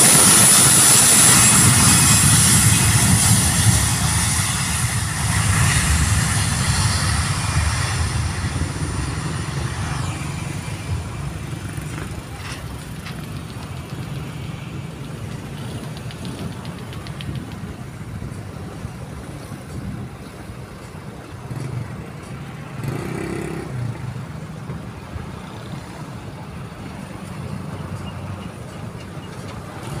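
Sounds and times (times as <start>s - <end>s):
distant jet engines rumbling: 0.0s - 30.0s.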